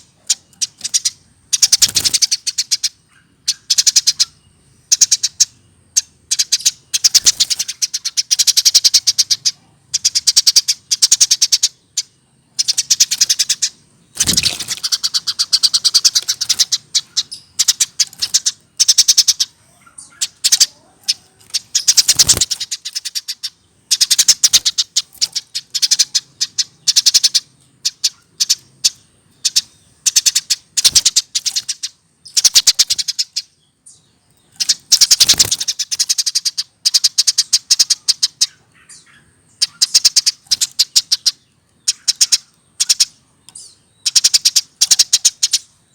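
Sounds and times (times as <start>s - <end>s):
sparrow chirping: 0.0s - 45.9s.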